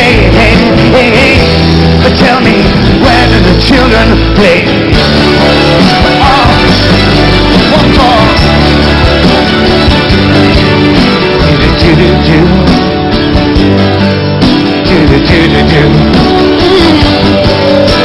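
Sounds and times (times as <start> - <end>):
held bass notes: 0.0 - 18.0
strummed acoustic guitar: 0.0 - 18.0.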